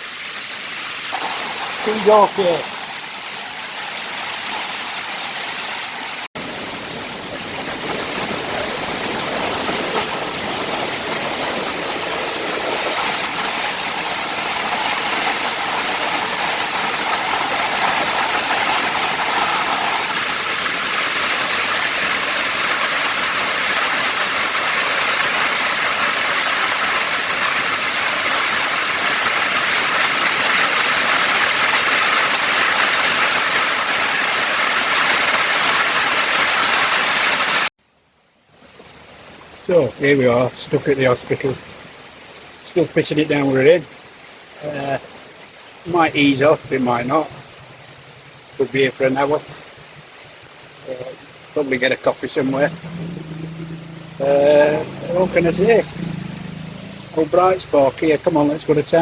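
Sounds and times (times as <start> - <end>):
heavy rain pouring: 0.0 - 37.7, 38.8 - 59.0.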